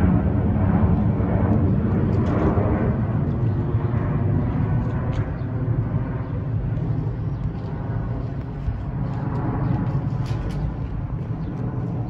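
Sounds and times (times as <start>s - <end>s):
jet airliner flying overhead: 0.0s - 12.0s.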